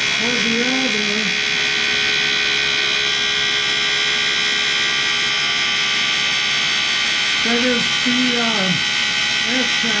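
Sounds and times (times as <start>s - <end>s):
grinder high-pitched whine: 0.0s - 10.0s.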